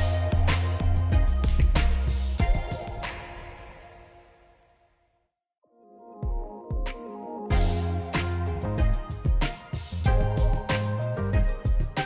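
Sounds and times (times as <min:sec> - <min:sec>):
background music with beat: 0:00.0 - 0:04.1, 0:06.1 - 0:12.0.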